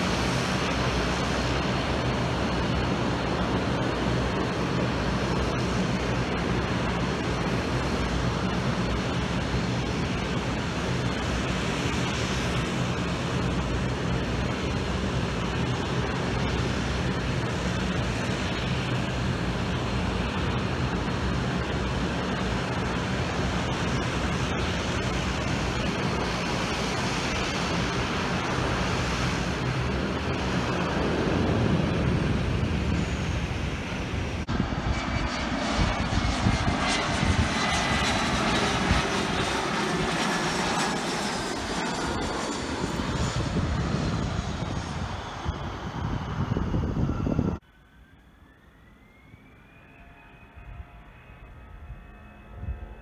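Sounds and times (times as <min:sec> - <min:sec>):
aircraft engines whining: 0:00.0 - 0:53.0
turboprop engines humming: 0:00.0 - 0:53.0.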